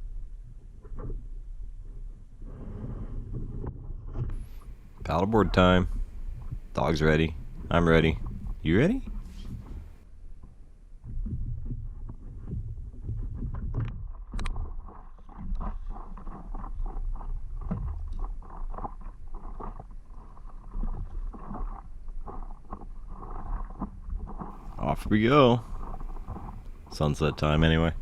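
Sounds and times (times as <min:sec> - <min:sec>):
wind rumble on microphone: 0:00.0 - 0:28.0
water splashing around paddleboard: 0:02.5 - 0:28.0.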